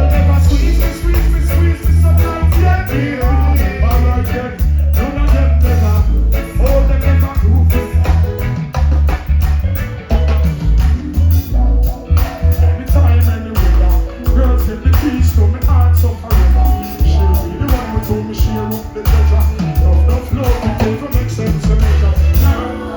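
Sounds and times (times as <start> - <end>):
heavy pulsing bass notes: 0.0 - 22.8
live reggae band: 0.0 - 22.9.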